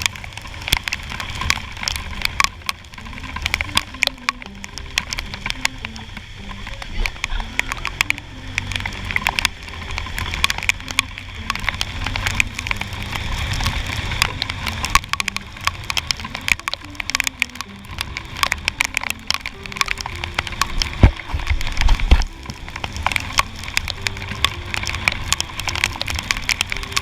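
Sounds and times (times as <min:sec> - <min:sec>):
raindrops clicking on helmet: 0:00.0 - 0:27.0
scooter engine humming: 0:00.0 - 0:27.0.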